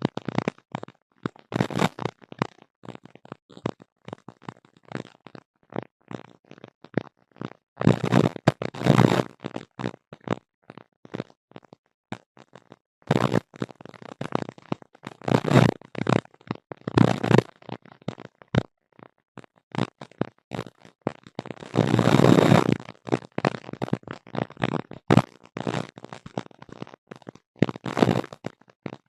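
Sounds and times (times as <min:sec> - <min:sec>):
rough crackling noise bursts: 0:00.0 - 0:29.0.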